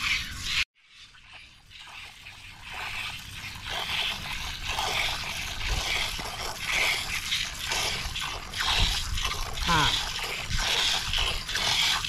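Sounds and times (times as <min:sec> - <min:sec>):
milk squirting into steel pot: 0:01.2 - 0:12.0.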